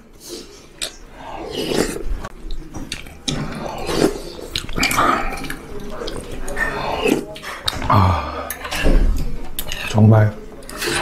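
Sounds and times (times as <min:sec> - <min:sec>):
person slurping soup: 0:00.2 - 0:02.3, 0:03.2 - 0:09.9
person chewing: 0:00.2 - 0:10.0.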